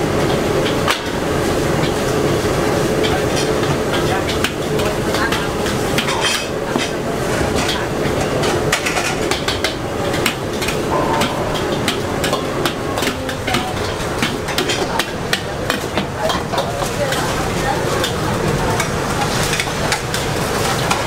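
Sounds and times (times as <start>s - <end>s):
frying hiss: 0.0s - 21.0s.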